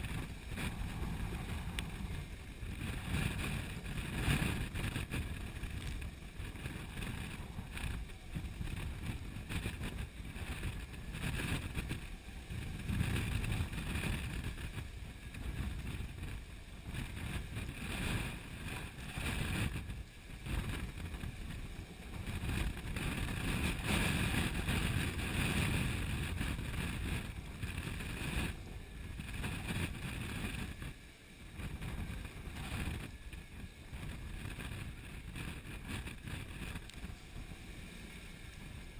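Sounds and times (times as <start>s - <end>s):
strong wind buffeting microphone: 0.0s - 38.9s.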